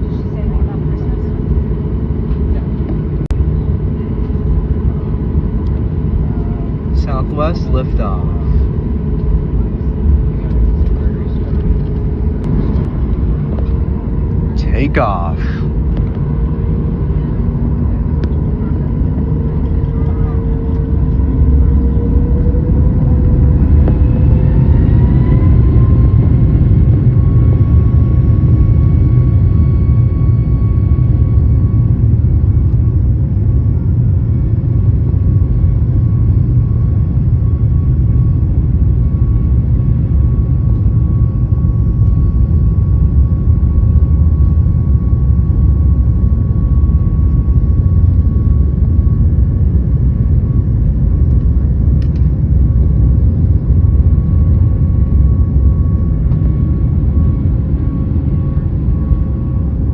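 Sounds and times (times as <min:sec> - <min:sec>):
jet engine whine: 0:00.0 - 0:59.9
loud low jet rumble: 0:00.0 - 0:59.9.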